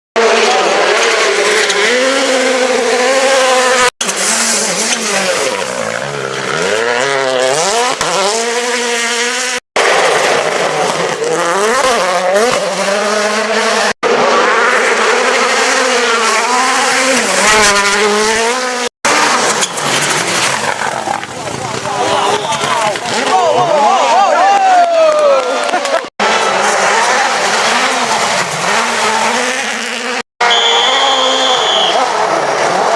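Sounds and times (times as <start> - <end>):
rally car engines revving: 0.2 - 32.9.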